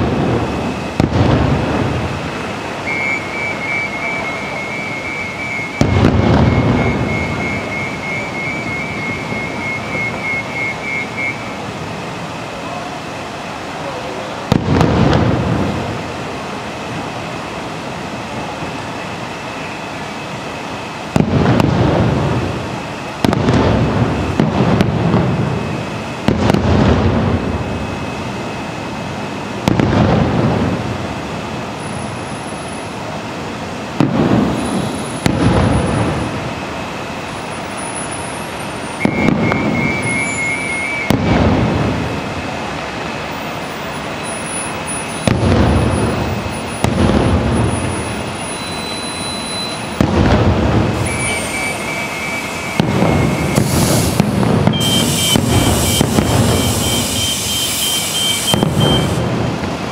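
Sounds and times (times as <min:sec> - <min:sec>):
distant fireworks booming: 0:00.0 - 0:13.6, 0:14.4 - 0:59.9
steady background hiss: 0:00.0 - 0:59.9.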